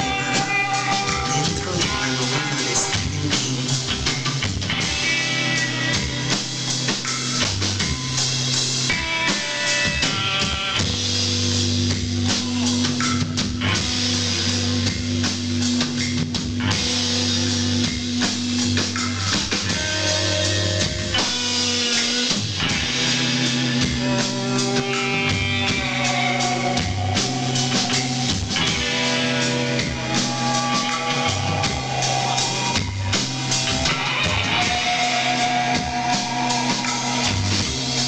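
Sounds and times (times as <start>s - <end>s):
bass guitar: 0.0s - 38.0s
drum kit: 0.0s - 38.0s
electric guitars: 0.0s - 38.0s.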